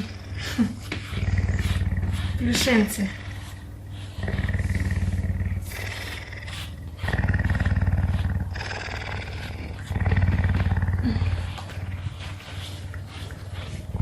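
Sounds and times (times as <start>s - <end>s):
big cat purring: 0.0s - 14.0s.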